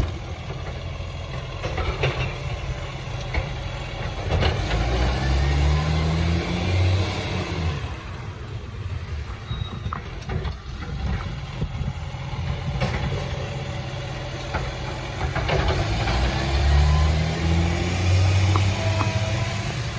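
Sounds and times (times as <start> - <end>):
garbage truck diesel engine: 0.0 - 19.9.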